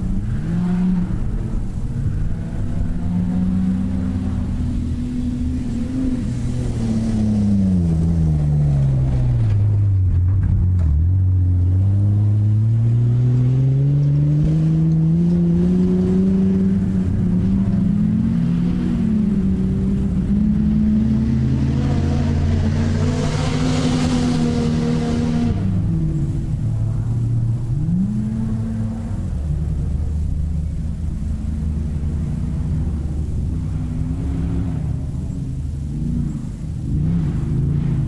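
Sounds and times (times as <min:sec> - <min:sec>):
racing buggy engine revving: 0:00.0 - 0:38.0.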